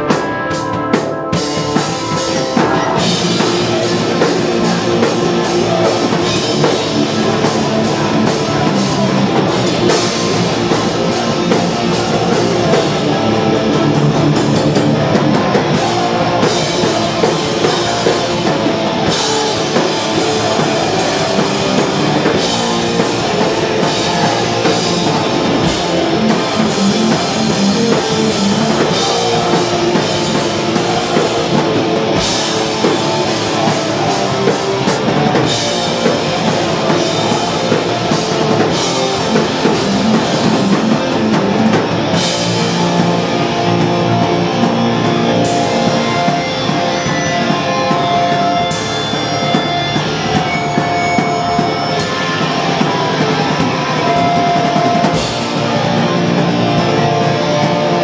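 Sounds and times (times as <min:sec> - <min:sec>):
distorted electric guitars: 0:00.0 - 0:58.0
driving drum kit: 0:00.0 - 0:58.0.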